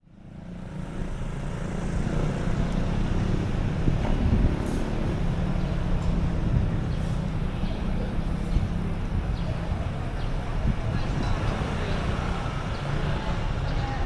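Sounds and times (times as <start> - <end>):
street low rumble: 0.0 - 14.0.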